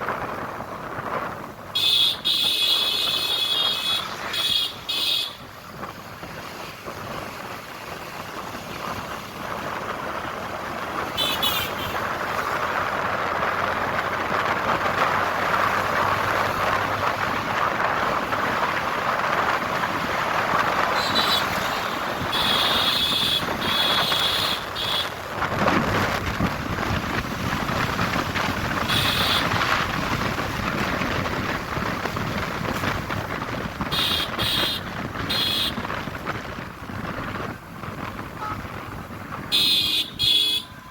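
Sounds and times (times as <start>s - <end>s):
wind rushing over microphone: 0.0s - 11.2s, 11.8s - 40.9s
motorbike road noise: 0.0s - 40.9s.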